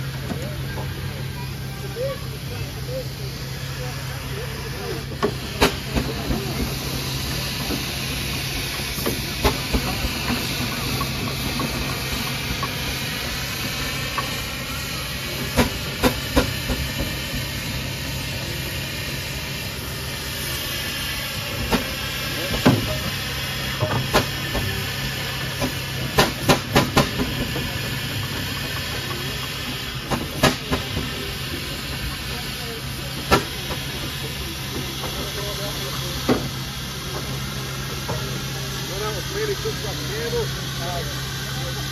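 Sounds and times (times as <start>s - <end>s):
steam hissing: 0.0s - 41.9s.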